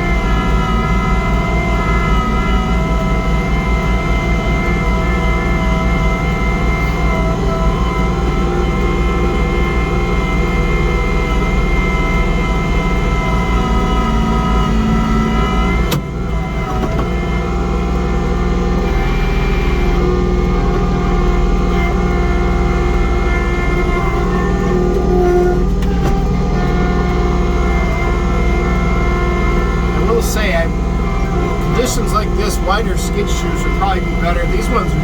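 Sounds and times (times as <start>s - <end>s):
snowblower whine: 0.0s - 35.0s
tractor diesel engine running: 0.0s - 35.0s.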